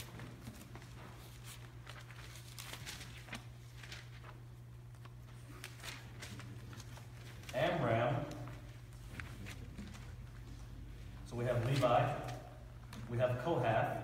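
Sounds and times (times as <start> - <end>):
faint footsteps: 0.0 - 13.2
steady low hum: 0.0 - 14.0.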